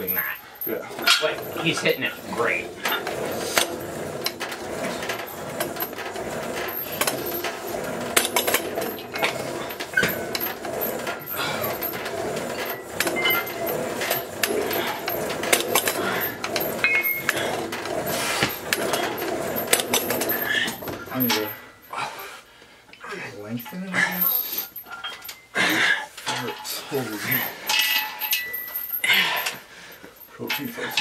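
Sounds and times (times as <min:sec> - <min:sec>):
dumbbell plates clinking: 0:00.0 - 0:22.4, 0:23.0 - 0:31.0
room noise: 0:00.0 - 0:31.0.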